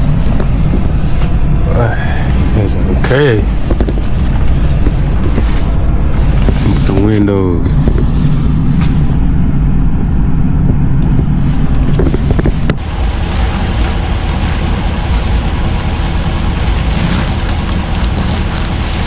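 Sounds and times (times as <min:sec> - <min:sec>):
pickup engine idling: 0:00.0 - 0:09.7, 0:11.0 - 0:19.0.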